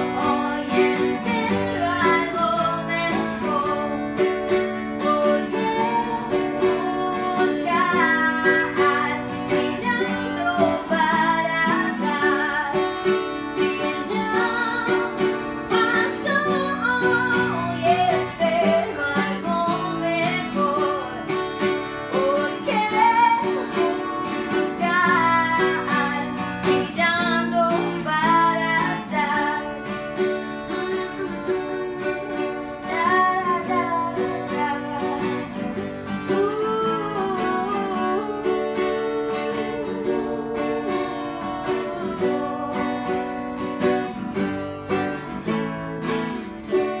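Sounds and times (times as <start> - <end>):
acoustic guitar: 0.0 - 47.0
small string instrument strumming: 0.0 - 47.0
woman singing: 0.0 - 47.0.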